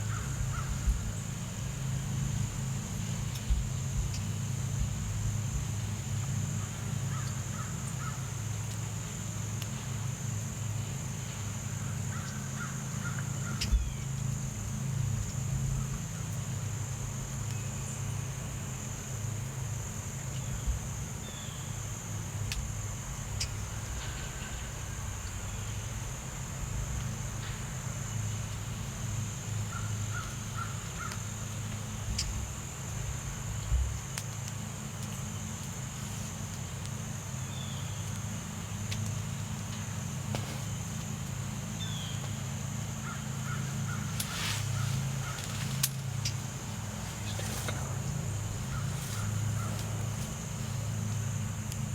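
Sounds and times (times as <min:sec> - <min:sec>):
high-pitched insect drone: 0:00.0 - 0:51.9
low steady hum: 0:00.0 - 0:51.9.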